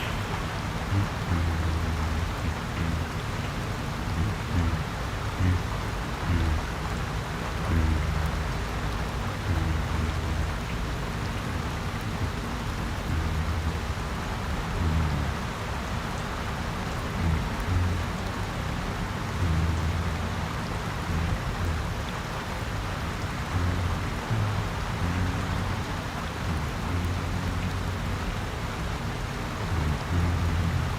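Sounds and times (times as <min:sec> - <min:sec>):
low hum: 0:00.0 - 0:16.2, 0:16.8 - 0:30.9
steady rain falling: 0:00.0 - 0:30.9.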